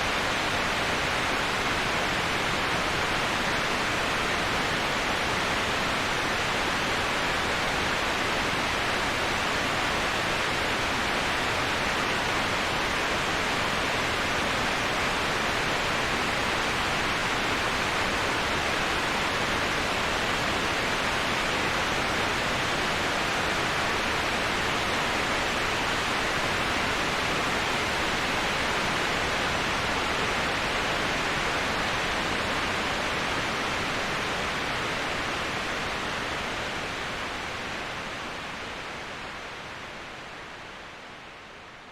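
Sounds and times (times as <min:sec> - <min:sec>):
waterfall rushing: 0:00.0 - 0:41.8.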